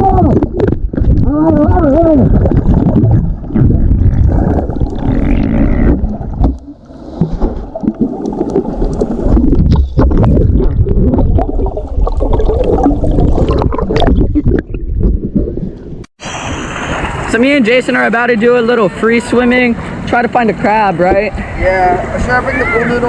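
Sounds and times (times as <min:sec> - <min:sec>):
muffled water churning: 0:00.0 - 0:23.0.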